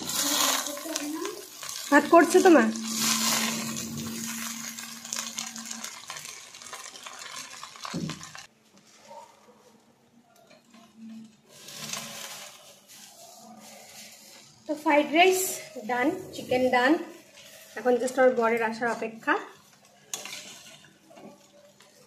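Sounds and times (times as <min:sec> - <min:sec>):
metal spatula scraping a pan: 0:00.0 - 0:07.0, 0:10.5 - 0:14.7, 0:15.3 - 0:22.0.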